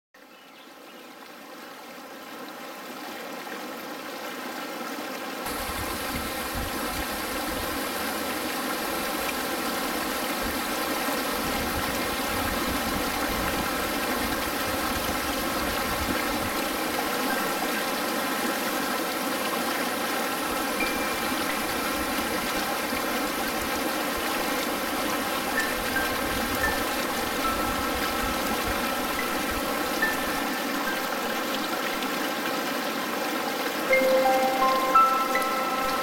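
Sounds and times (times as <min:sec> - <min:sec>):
brook water tumbling over rocks: 0:01.1 - 0:36.0.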